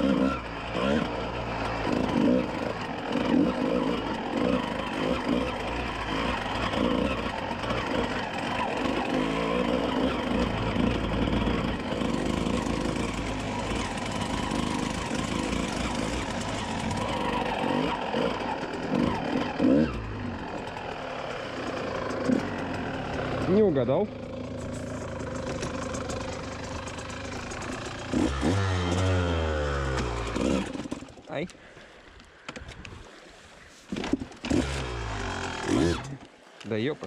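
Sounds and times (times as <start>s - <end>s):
dirt bike engine revving: 0.0s - 31.2s, 34.0s - 36.2s.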